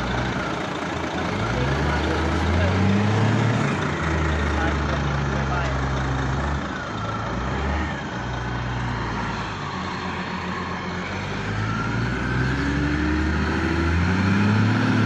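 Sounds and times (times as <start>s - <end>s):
heavy diesel engine revving: 0.0s - 15.0s.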